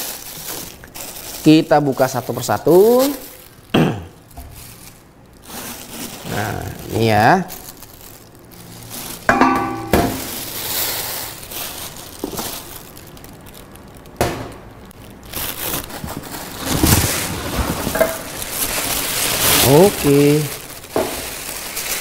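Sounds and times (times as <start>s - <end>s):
plastic packaging rustling: 0.0s - 22.0s.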